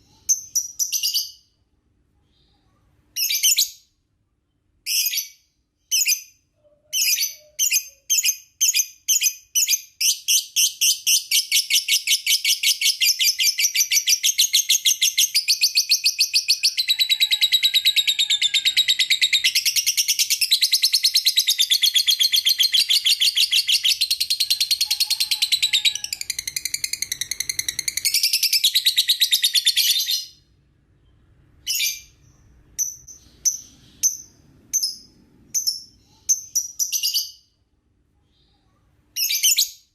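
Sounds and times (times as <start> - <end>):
lovebird chirping: 0.0 - 1.6, 4.8 - 37.6, 38.3 - 39.9.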